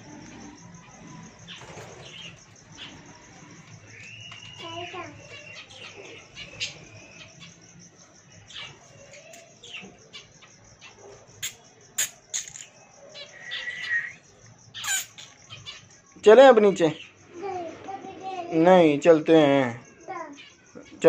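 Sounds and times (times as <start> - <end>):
faint high chirping: 0.0 - 21.0.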